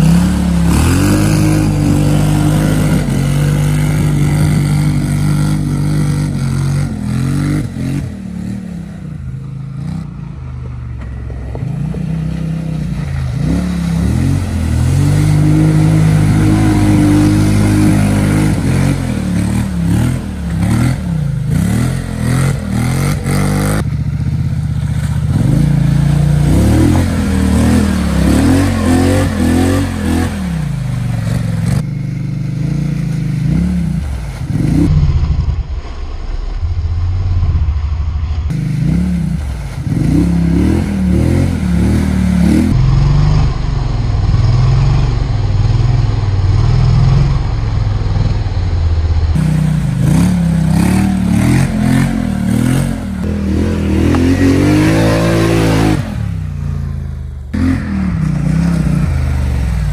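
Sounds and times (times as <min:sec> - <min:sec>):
atv engine revving: 0:00.0 - 0:35.2, 0:38.5 - 0:59.9.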